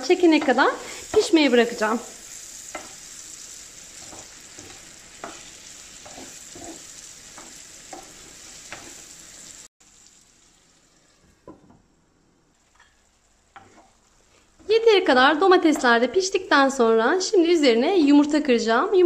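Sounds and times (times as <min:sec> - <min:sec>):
vegetables sizzling in frying pan: 0:00.0 - 0:11.8, 0:12.5 - 0:17.5.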